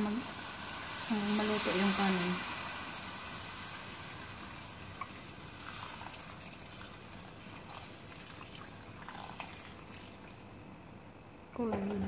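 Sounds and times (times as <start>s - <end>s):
water pouring into a metal pot: 0.1s - 10.4s.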